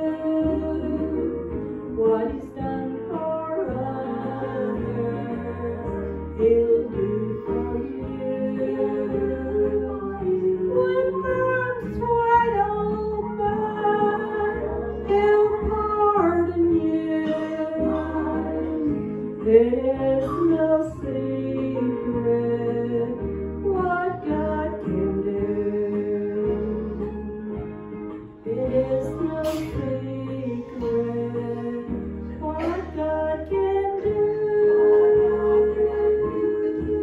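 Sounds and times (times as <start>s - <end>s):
woman singing slow song: 0.0s - 27.8s, 28.4s - 37.0s
instrumental accompaniment: 0.0s - 37.0s.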